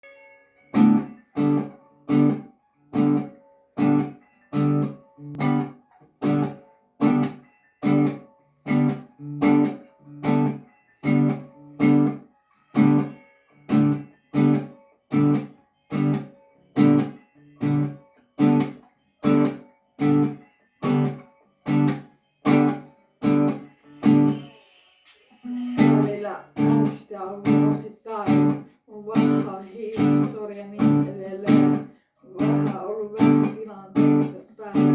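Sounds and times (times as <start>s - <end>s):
guitar strumming: 0.0s - 24.5s, 25.5s - 34.9s.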